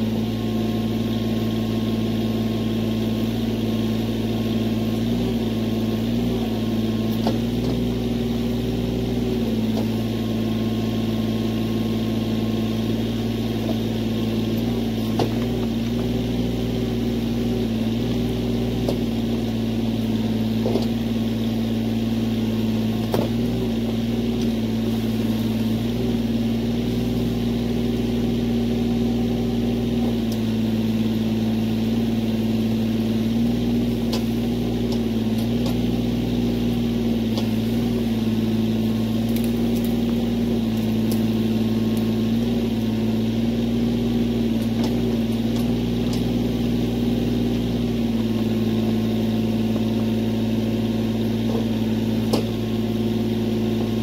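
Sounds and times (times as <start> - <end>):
chainsaw engine running at high speed: 0.0 - 54.0.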